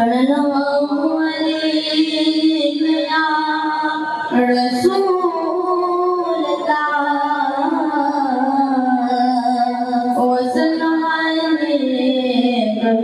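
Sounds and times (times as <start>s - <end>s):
boy singing unaccompanied: 0.0s - 13.0s.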